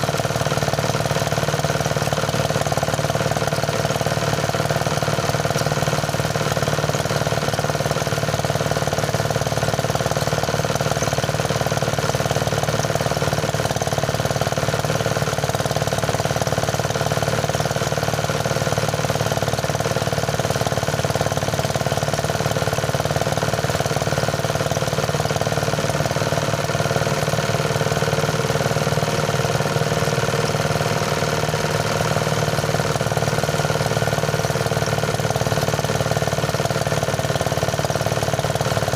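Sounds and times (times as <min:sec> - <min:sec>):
rice thresher running: 0:00.0 - 0:38.9.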